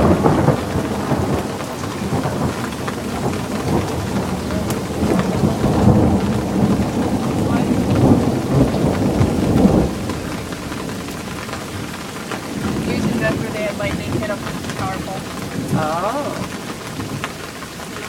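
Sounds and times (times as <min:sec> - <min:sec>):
heavy rain pouring: 0:00.0 - 0:18.0
thunder rumbling: 0:00.0 - 0:18.0.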